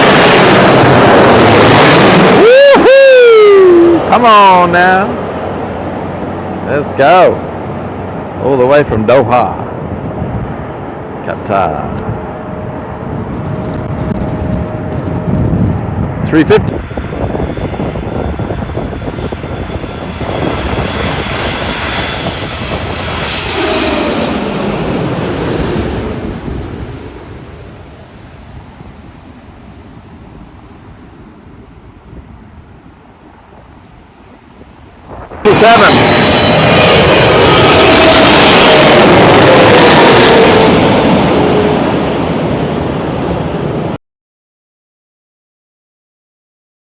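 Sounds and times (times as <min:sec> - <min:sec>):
jet airliner passing overhead: 0:00.0 - 0:44.0.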